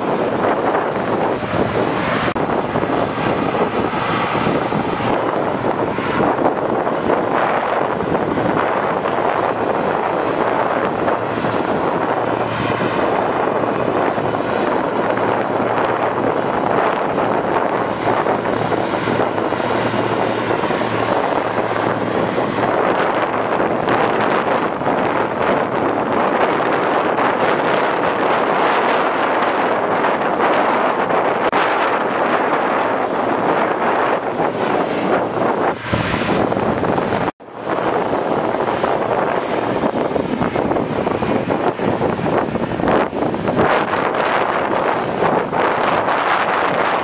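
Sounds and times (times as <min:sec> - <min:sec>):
combine harvester threshing: 0:00.0 - 0:47.0
wind buffeting microphone: 0:00.0 - 0:47.0.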